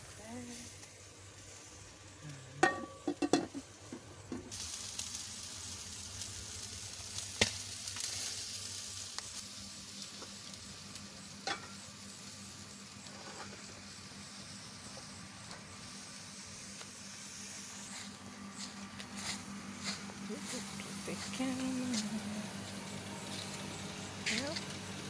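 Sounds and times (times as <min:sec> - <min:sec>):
food sizzling: 0:00.0 - 0:25.0.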